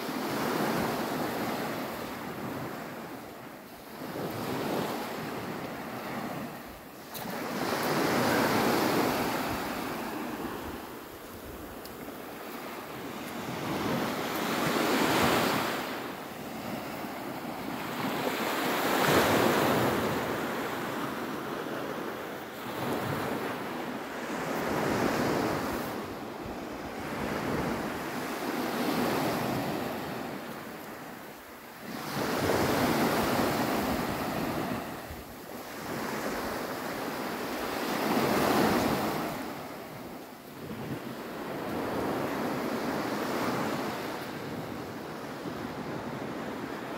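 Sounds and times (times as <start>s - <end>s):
waves breaking on a beach: 0.0s - 46.9s.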